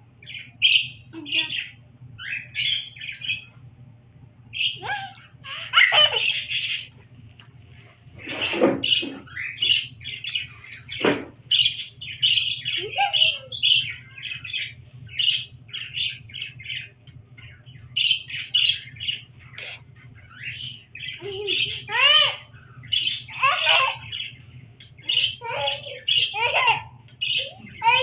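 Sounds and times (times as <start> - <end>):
parrots chirping and chattering: 0.2 - 3.6, 4.5 - 7.2, 8.1 - 28.0.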